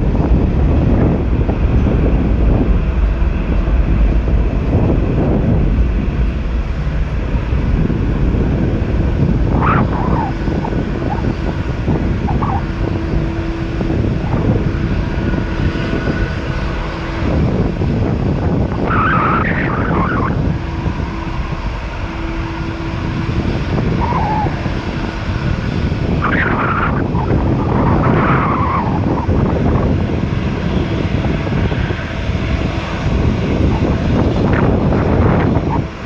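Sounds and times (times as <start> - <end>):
jet engine rumble: 0.0 - 36.0
wind buffeting microphone: 0.0 - 36.0.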